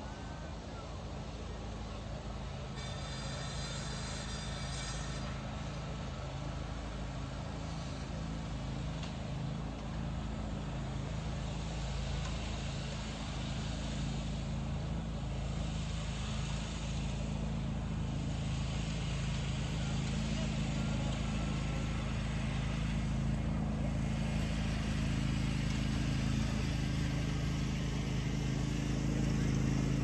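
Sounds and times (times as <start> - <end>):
constant low hum: 0.0 - 30.0
distant road traffic: 0.0 - 30.0.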